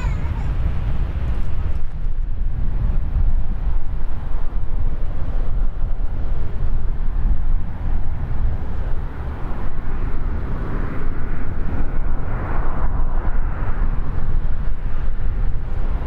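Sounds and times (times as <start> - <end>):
distant jet airliner engine: 0.0 - 16.0
wind buffeting microphone: 0.0 - 16.0.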